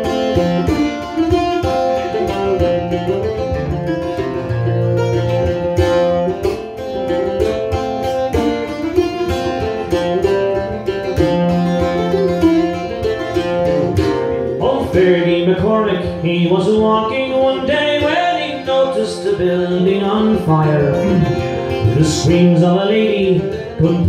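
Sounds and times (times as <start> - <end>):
acoustic string instrument picking: 0.0 - 24.0.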